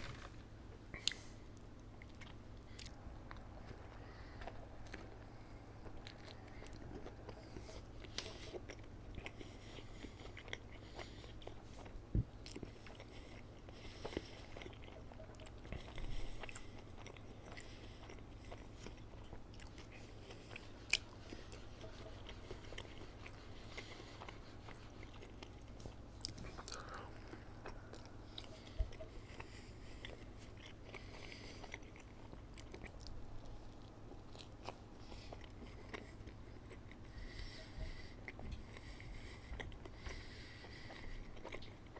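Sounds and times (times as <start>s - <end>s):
person chewing and crunching food: 0.0s - 41.9s
steady low hum: 0.0s - 41.9s.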